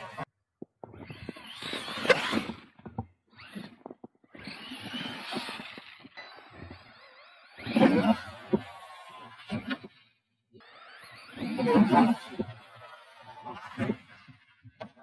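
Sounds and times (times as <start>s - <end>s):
electric motor whining: 0.0s - 15.0s
tyres churning through snow: 0.9s - 9.9s, 10.6s - 15.0s.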